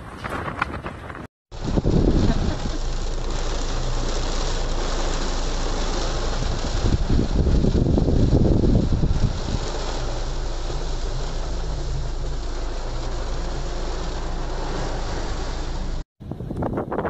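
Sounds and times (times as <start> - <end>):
wind buffeting microphone: 0.0 - 3.1, 5.5 - 14.0, 14.9 - 17.0
engine and road hum: 0.2 - 16.9
heavy rain on a car: 1.5 - 16.0.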